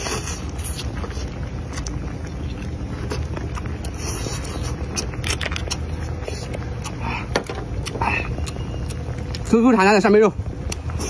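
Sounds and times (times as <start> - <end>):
person chewing and slurping: 0.0 - 9.5, 10.6 - 11.0
steady low rumble: 0.0 - 11.0.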